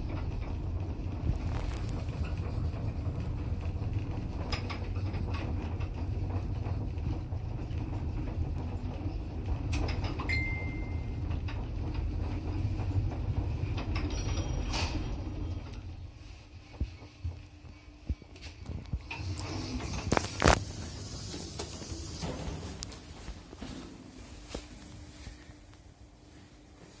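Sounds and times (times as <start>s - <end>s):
lift car low rumble: 0.0s - 27.0s.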